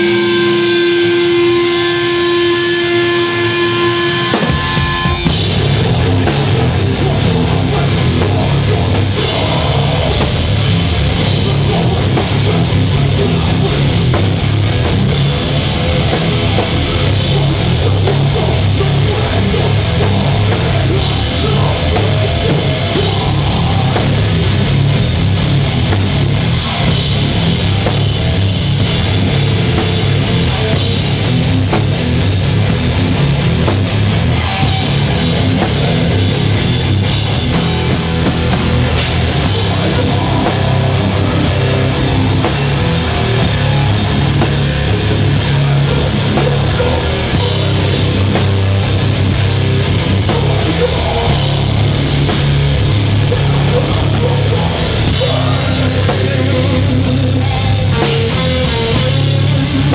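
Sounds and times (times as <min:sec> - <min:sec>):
bass guitar: 0:00.0 - 0:59.9
distorted electric guitar: 0:00.0 - 0:59.9
drum kit: 0:00.0 - 0:59.9.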